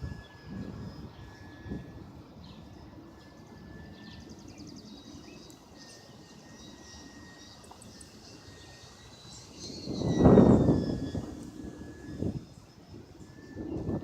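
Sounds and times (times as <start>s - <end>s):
distant model airplane motor whine: 0.0s - 14.0s
low wind rumble: 0.0s - 14.0s
birds chirping: 0.1s - 14.0s.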